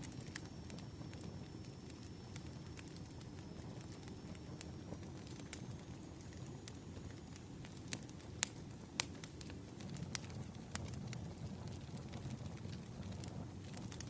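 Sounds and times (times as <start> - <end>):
low rumble of burning logs: 0.0 - 14.0
wood fire crackling and popping: 0.0 - 14.0.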